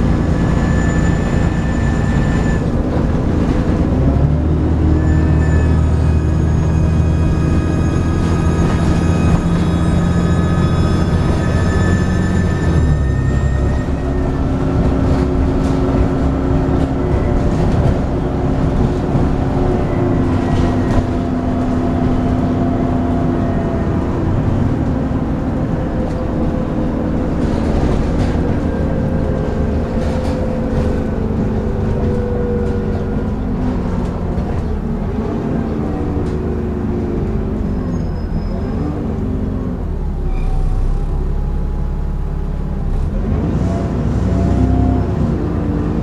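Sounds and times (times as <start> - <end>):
bus engine whine: 0.0 - 46.0
engine rumble: 0.0 - 46.0.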